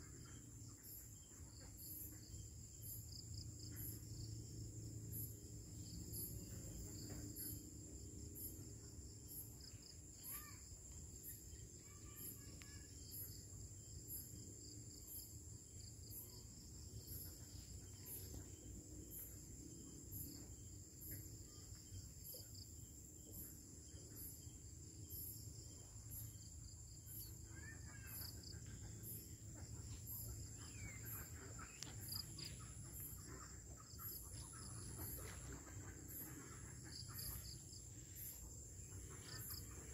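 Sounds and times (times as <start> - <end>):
sharp insect chirp: 0.1 - 39.9
crickets trilling: 2.2 - 39.9.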